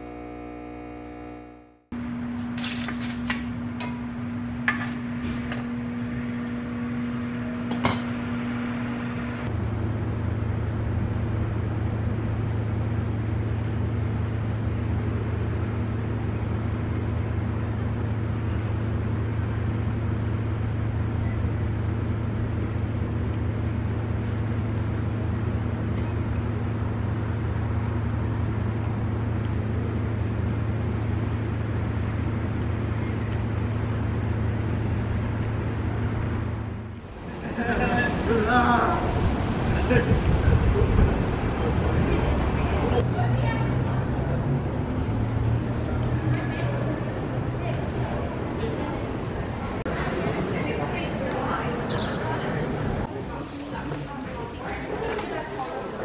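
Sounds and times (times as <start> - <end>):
loud low hum: 0.0 - 53.6
steady hum: 0.0 - 56.0.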